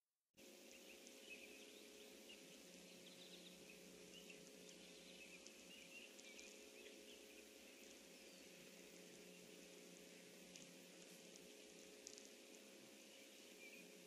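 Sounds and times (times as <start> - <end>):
faint high chirps: 0.4 - 14.0
low hum and hiss: 0.4 - 14.0.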